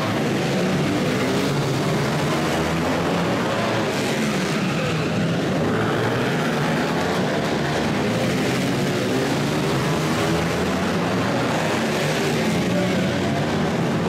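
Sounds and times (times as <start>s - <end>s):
motorcycle engines revving in a hall: 0.0s - 14.0s.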